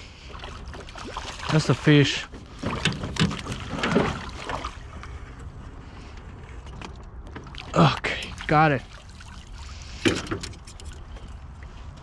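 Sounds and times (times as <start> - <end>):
water splashing: 0.0 - 5.2, 6.7 - 12.0
low rumble of wind and water: 0.0 - 12.0.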